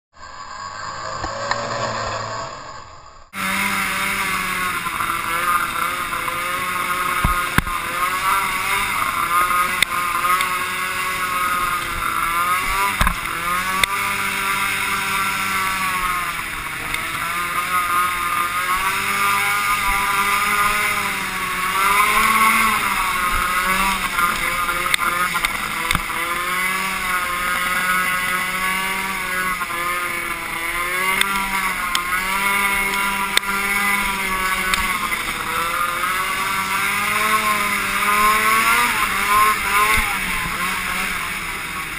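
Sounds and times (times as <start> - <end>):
snowmobile engine revving: 0.2 - 41.9.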